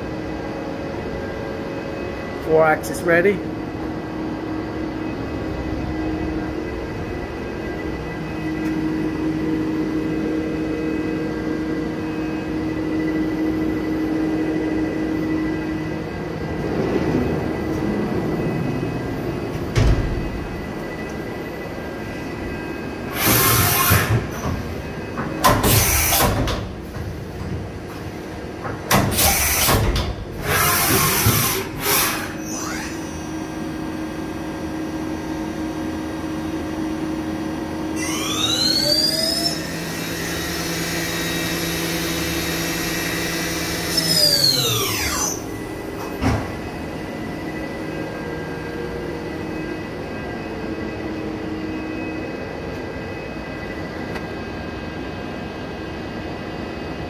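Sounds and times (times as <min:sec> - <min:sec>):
machine hum: 0:00.0 - 0:57.0
spindle motor whine: 0:00.0 - 0:57.0.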